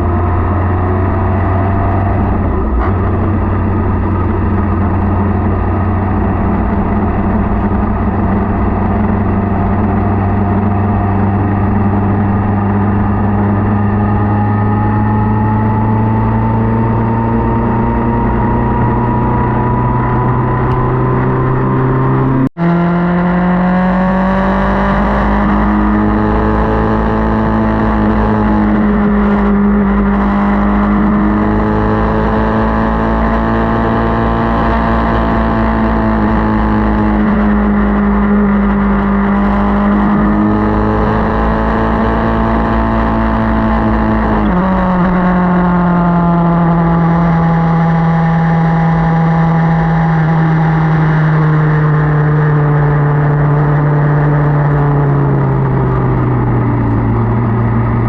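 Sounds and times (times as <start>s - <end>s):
motorcycle engine accelerating: 0.0s - 58.0s
road noise: 0.0s - 58.0s
rushing wind: 0.0s - 58.0s.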